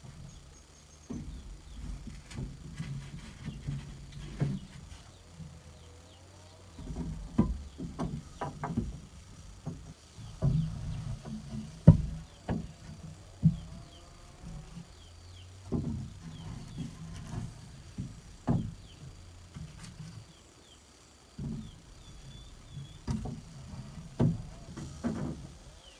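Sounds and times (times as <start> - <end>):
knocks and thumps: 0.0 - 5.8, 6.7 - 20.4, 21.3 - 25.8.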